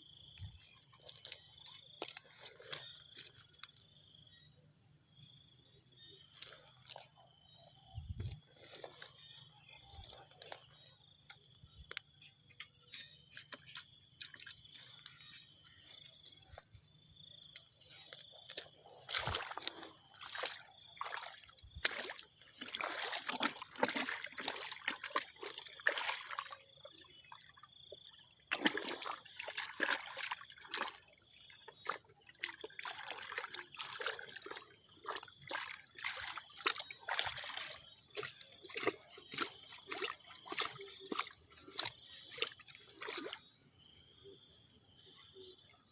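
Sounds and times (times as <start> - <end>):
insects trilling: 0.0 - 45.9
footsteps splashing through water: 0.1 - 3.8, 6.2 - 12.0, 12.6 - 43.5.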